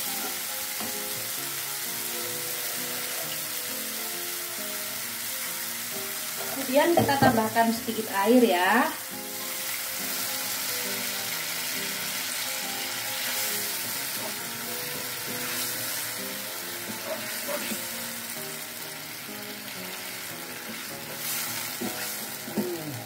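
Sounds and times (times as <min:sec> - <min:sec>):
soft background music: 0:00.0 - 0:23.0
spice paste sizzling in a wok: 0:00.0 - 0:23.0.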